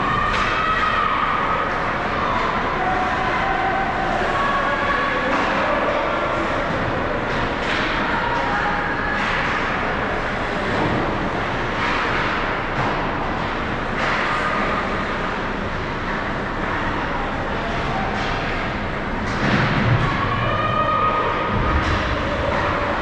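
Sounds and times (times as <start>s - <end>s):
echoing arena noise: 0.0s - 23.0s.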